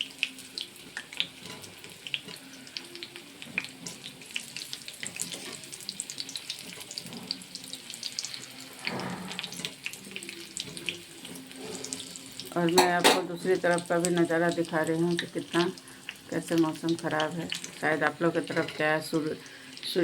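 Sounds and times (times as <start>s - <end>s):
food frying in hot oil: 0.0s - 20.0s.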